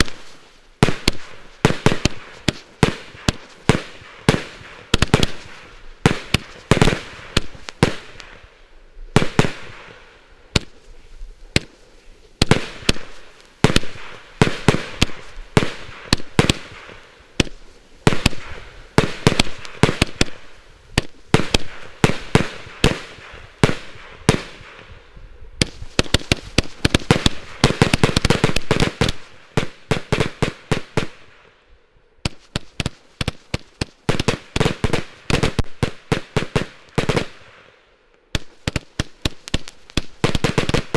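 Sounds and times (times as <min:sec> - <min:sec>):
fireworks firing sharp bangs: 0:00.0 - 0:08.5, 0:09.1 - 0:31.5, 0:32.2 - 0:40.9.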